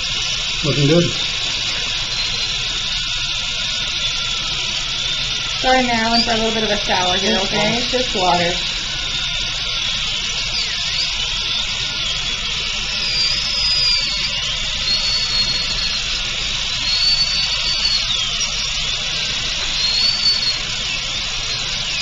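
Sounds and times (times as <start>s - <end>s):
dental drill whine: 0.0s - 22.0s.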